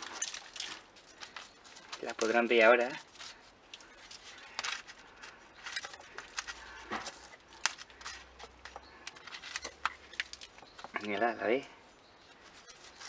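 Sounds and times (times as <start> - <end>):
soil scratching and rustling: 0.0 - 13.0.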